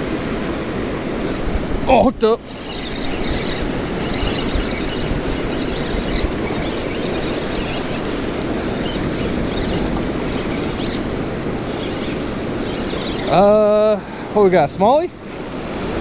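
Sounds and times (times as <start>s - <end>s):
river water roaring: 0.0s - 16.0s.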